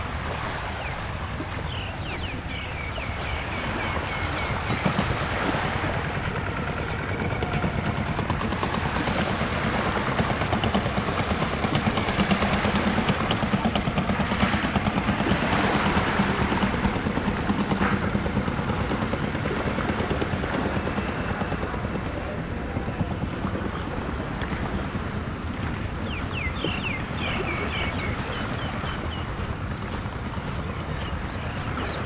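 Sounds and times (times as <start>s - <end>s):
surf: 0.0s - 32.0s
wind: 0.0s - 32.0s
engine chugging: 1.6s - 32.0s.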